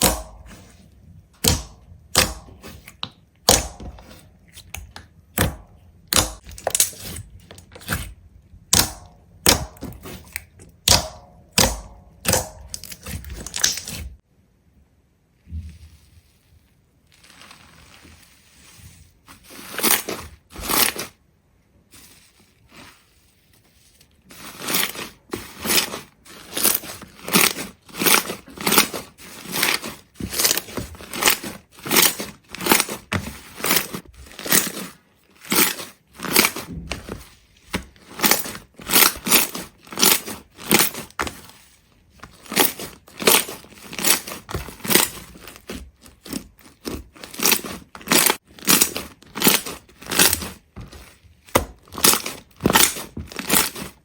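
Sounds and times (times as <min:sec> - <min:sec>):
brittle crunching strokes: 0:06.1 - 0:14.2, 0:16.3 - 0:21.2, 0:22.0 - 0:54.0.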